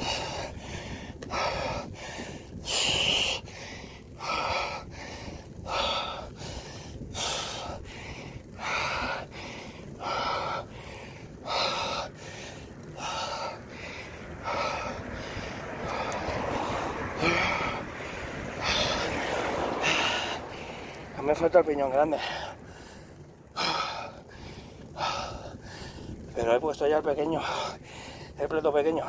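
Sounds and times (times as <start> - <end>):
person breathing hard: 0.0 - 21.2, 22.0 - 26.3, 27.3 - 28.5.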